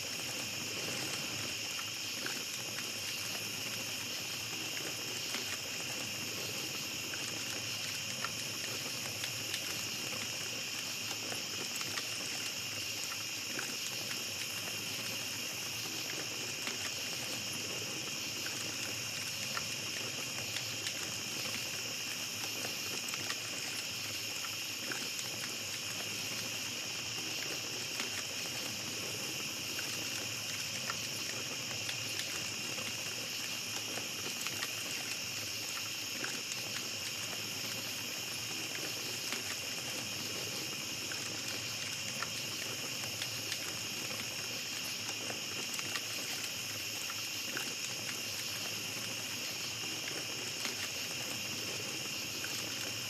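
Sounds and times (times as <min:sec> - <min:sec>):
campfire crackles: 0:00.0 - 0:53.0
crickets chirring: 0:00.0 - 0:53.0.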